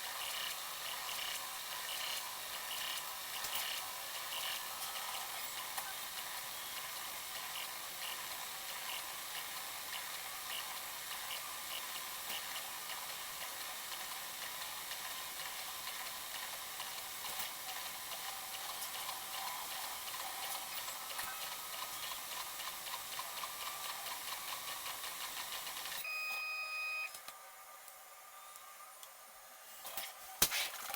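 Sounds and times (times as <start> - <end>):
printer whirring and ticking: 0.0 - 26.1.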